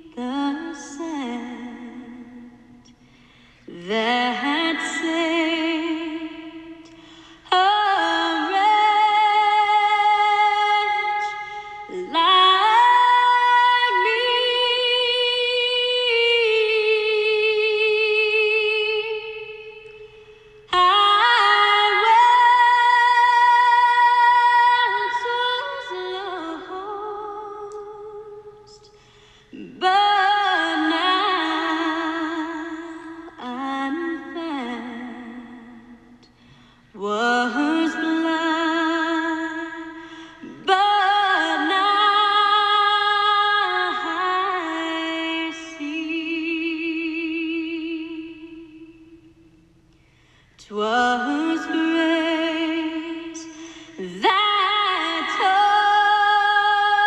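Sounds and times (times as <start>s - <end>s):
woman singing with vibrato: 0.0s - 49.7s, 50.6s - 57.0s.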